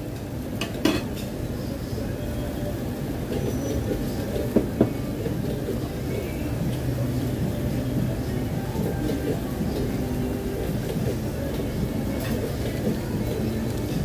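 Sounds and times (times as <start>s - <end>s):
restaurant background rumble: 0.0s - 14.0s.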